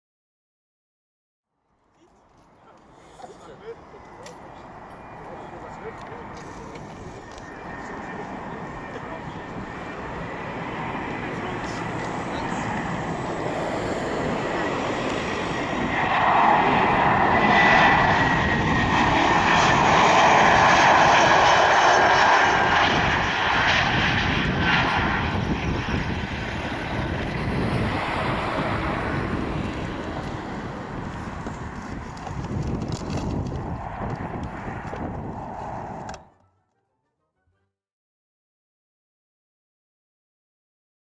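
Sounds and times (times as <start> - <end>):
jet engines rushing: 2.2 - 36.3.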